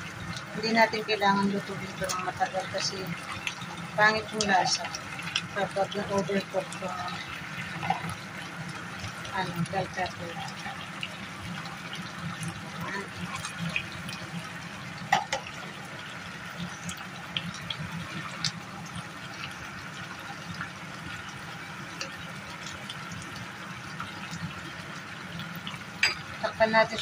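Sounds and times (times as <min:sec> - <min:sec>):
sauce bubbling in a frying pan: 0:00.0 - 0:27.0.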